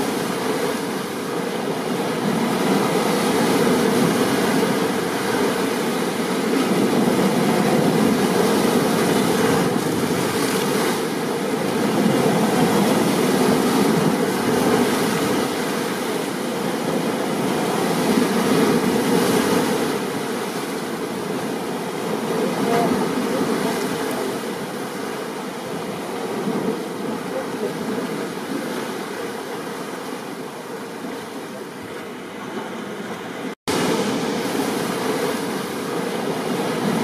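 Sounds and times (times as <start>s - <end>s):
ocean surf: 0.0s - 37.0s.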